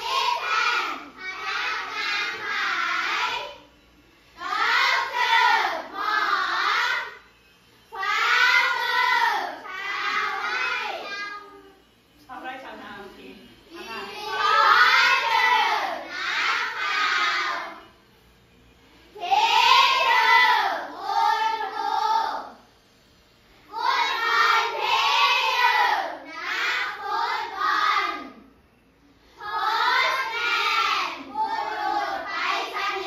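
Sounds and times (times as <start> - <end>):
children reading aloud in chorus: 0.0 - 3.7, 4.3 - 7.2, 7.9 - 11.8, 13.7 - 17.9, 19.1 - 22.6, 23.6 - 28.5, 29.2 - 33.0.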